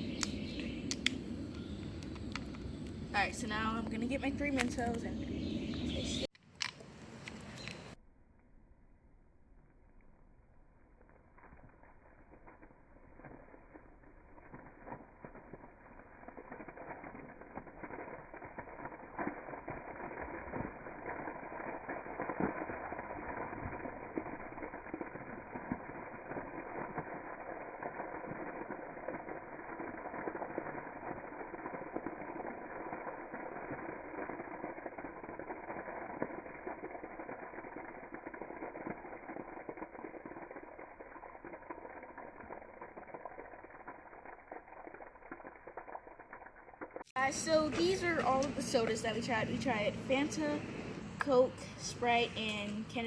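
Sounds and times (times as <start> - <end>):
soda fizzing and foaming: 0.0 - 6.3, 10.9 - 53.0.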